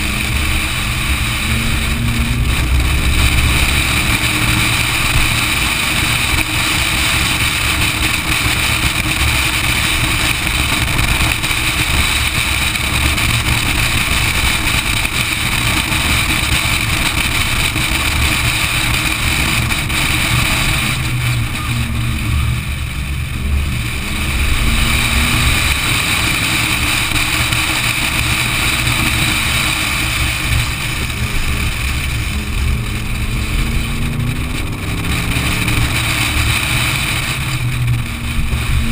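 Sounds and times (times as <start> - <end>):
race car engine: 0.0 - 38.9
wind rushing over camera: 0.0 - 38.9.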